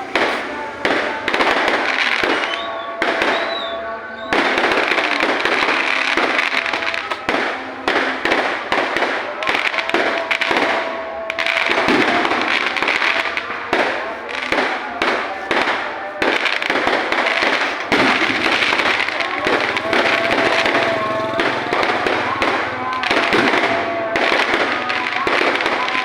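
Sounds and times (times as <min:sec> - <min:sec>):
faint voices: 0:00.0 - 0:26.0
fireworks bangs and crackles: 0:00.0 - 0:26.0.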